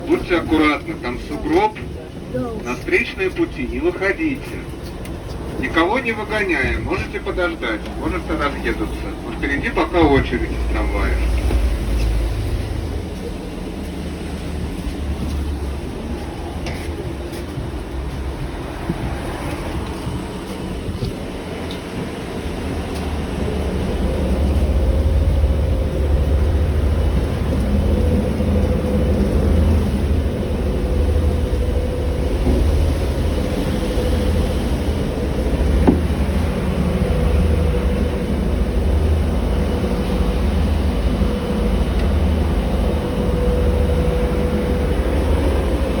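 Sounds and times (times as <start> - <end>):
diesel locomotive engine rumbling: 0.0 - 46.0.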